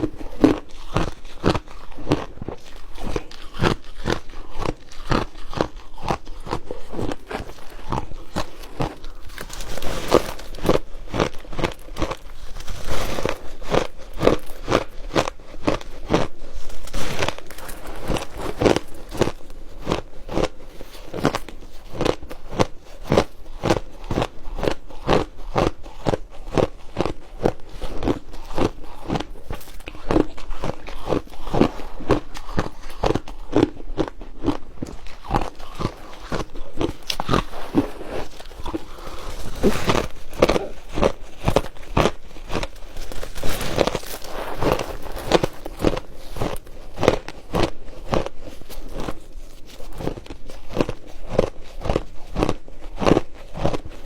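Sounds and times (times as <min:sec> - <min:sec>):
chewing crunchy ice: 0:00.0 - 0:54.0.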